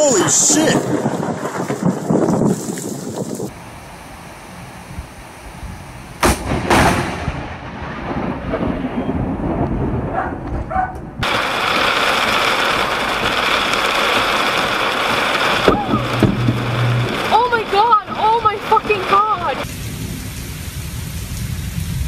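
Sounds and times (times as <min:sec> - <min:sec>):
thunder cracking and rumbling: 0:00.0 - 0:03.6, 0:05.6 - 0:22.0
rain hiss: 0:00.0 - 0:07.3, 0:11.2 - 0:22.0.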